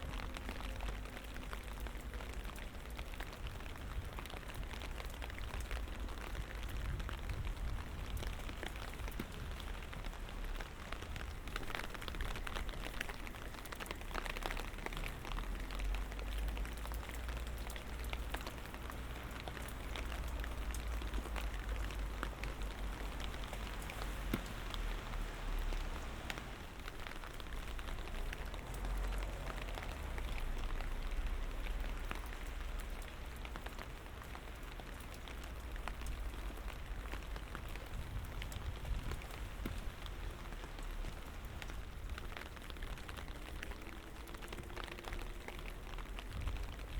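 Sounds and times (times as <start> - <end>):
raindrops ticking on surfaces: 0.0 - 46.9.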